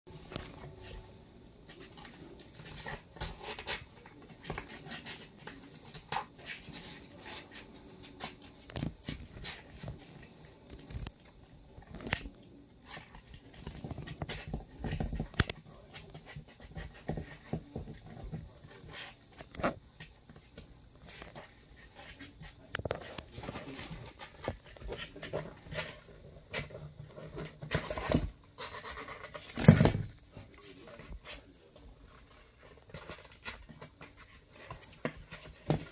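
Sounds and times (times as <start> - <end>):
kittens' paws scratching cardboard: 0.1 - 35.9.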